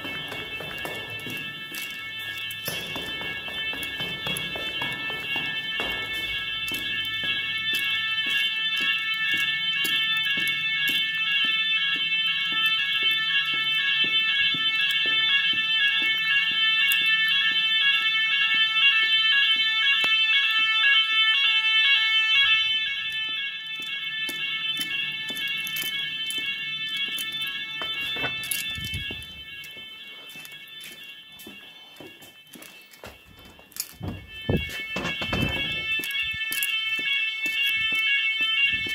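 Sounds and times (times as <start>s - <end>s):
fire alarm siren: 0.0s - 38.9s.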